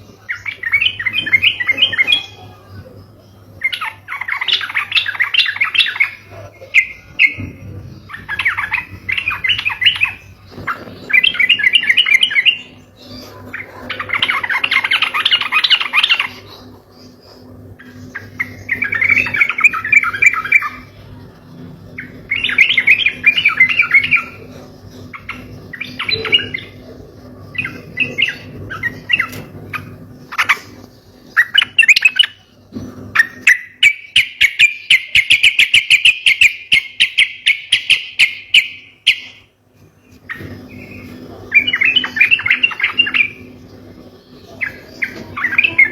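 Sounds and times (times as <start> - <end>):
bulbul chattering song: 0.0 - 45.9
faint low hum: 0.0 - 45.9.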